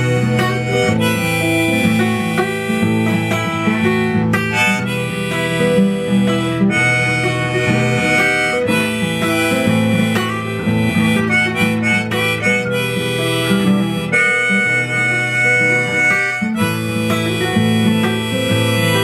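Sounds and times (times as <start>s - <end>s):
acoustic guitar: 0.0s - 19.0s
bass guitar: 0.0s - 19.0s
harmonica melody: 0.0s - 19.0s.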